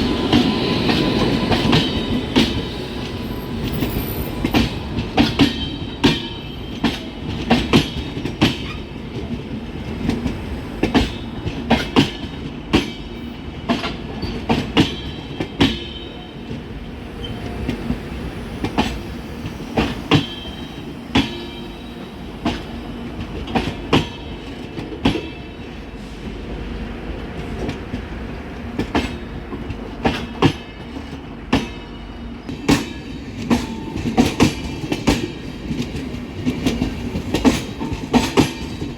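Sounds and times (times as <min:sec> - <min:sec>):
train rumble: 0:00.0 - 0:38.9
train wheels clicking on rails: 0:00.0 - 0:38.9.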